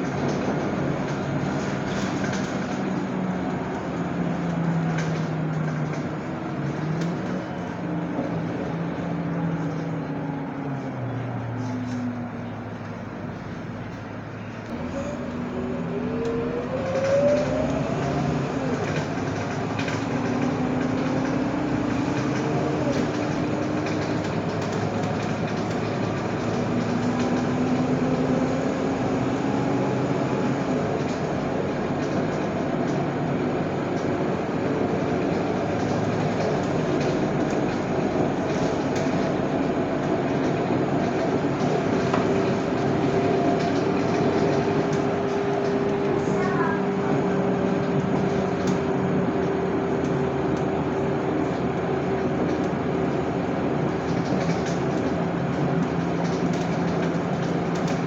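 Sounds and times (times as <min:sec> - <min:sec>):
bus engine rumble: 0:00.0 - 0:58.0
rising drivetrain whine: 0:00.0 - 0:58.0
road and body noise: 0:00.0 - 0:58.0.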